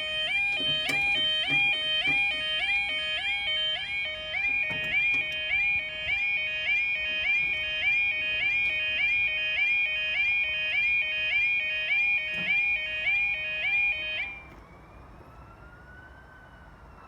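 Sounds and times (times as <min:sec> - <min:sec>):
level crossing two-tone alarm: 0:00.0 - 0:14.6.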